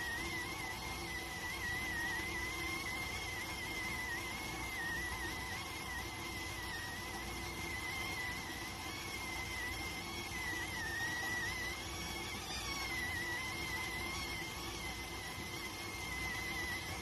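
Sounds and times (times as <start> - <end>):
rice cooker whistling: 0.0 - 17.0.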